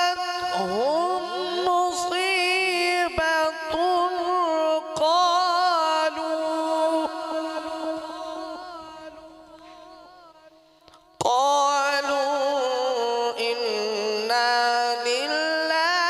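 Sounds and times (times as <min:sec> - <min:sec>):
man reciting melodically into microphone: 0:00.0 - 0:16.0.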